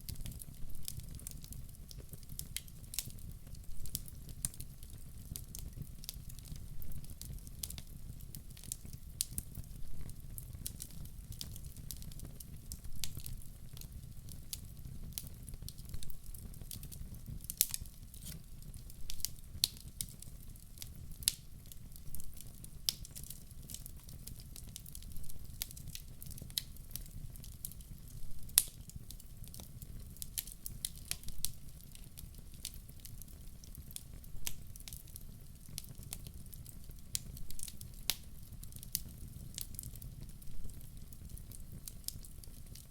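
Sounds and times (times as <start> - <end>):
fire crackling and popping: 0.0 - 42.9.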